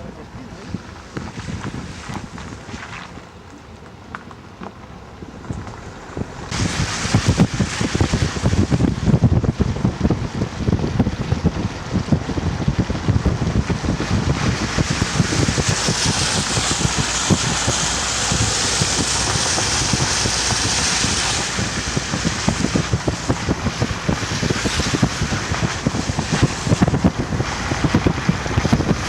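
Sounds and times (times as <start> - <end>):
wind buffeting microphone: 0.0 - 29.0
rain: 5.4 - 29.0
rushing storm water: 5.7 - 29.0.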